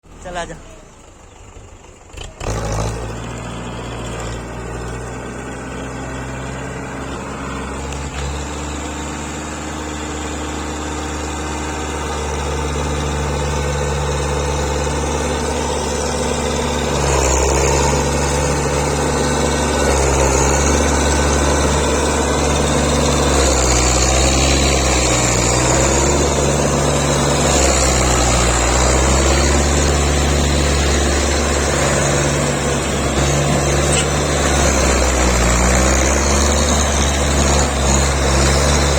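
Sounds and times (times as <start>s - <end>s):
tractor diesel engine labouring: 0.0s - 38.9s.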